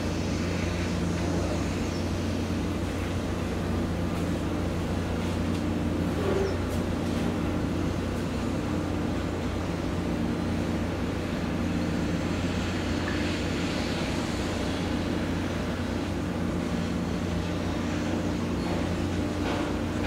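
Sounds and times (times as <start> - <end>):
ship engines droning: 0.0 - 20.0.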